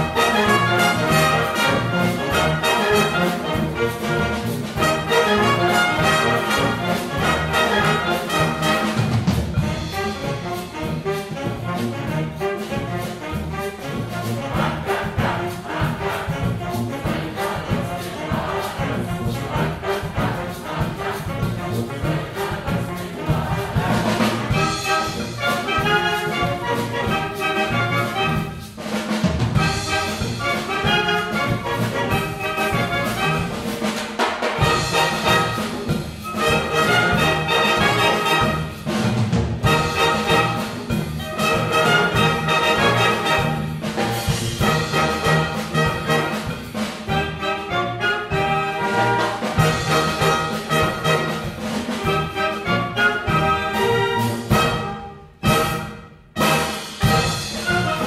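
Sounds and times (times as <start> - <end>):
brass band playing chords: 0.0 - 58.0
percussion beat: 0.0 - 58.0.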